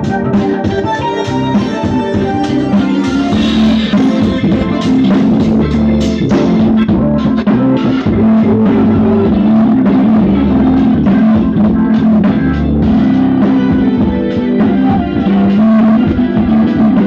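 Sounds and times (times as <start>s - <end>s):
loud band music through speakers: 0.0s - 17.0s.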